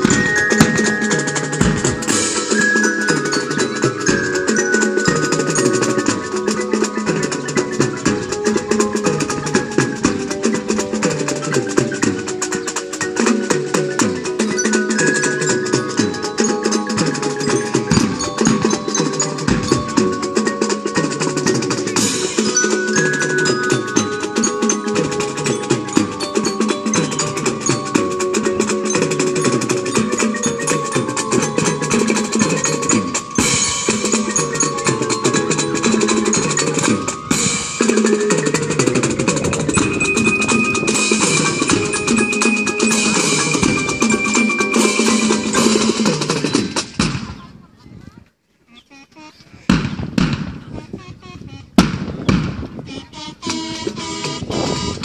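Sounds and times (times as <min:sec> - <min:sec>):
marching band playing: 0:00.0 - 0:47.3, 0:49.9 - 0:55.0
drum strokes: 0:00.0 - 0:47.4, 0:49.7 - 0:55.0.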